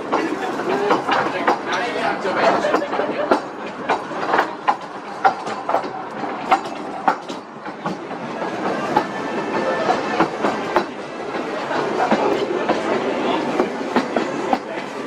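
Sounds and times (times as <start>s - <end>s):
train wheels over rail joints: 0.0s - 15.0s.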